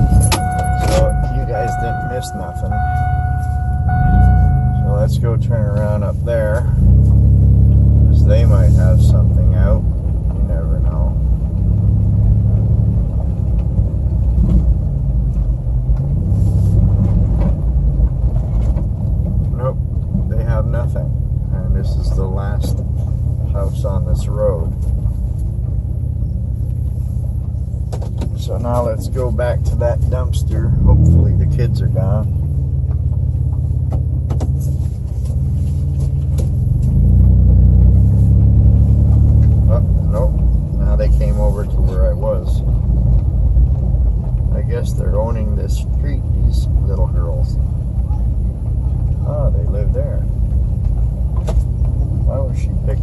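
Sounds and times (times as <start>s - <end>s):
car engine hum: 0.0s - 53.0s
road rumble inside car: 0.0s - 53.0s.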